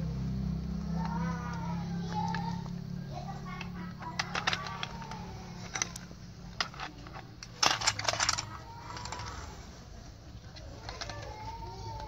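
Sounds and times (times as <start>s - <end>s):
plastic toy cars clattering: 0.9s - 12.0s.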